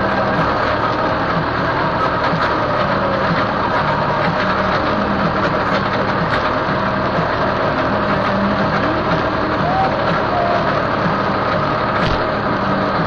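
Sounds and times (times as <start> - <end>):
tractor engine running steadily: 0.0 - 13.0.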